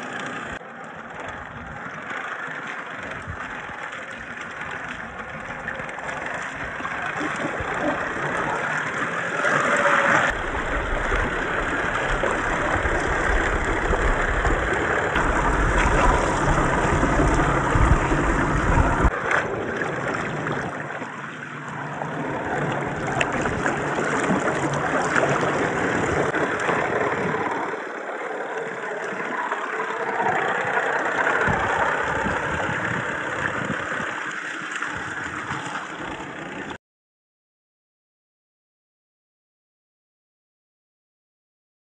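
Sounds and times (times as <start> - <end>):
water splashing around tyres: 0.0 - 36.8.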